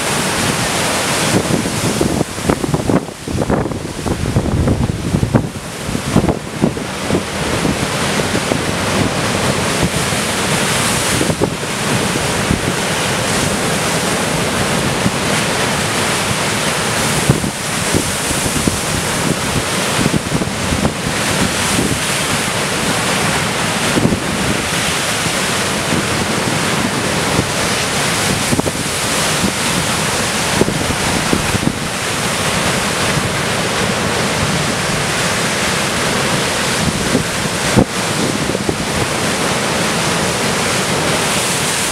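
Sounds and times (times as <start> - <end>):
waves crashing on rocks: 0.0 - 41.9
wind buffeting microphone: 0.0 - 41.9.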